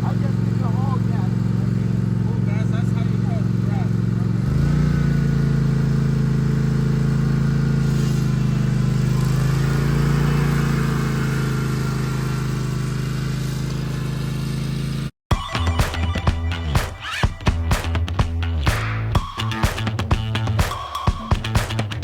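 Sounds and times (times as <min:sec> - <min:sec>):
lawn mower engine droning: 0:00.0 - 0:22.0.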